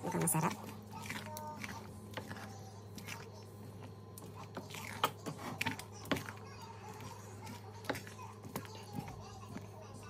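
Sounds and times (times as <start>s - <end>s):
spoon stirring a pot: 0.0s - 10.0s.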